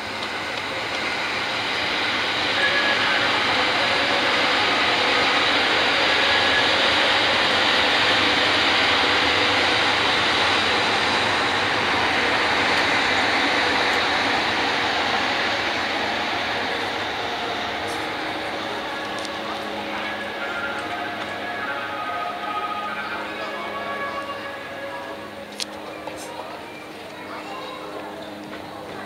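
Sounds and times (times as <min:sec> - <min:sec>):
train rolling on rails: 0:00.0 - 0:29.0.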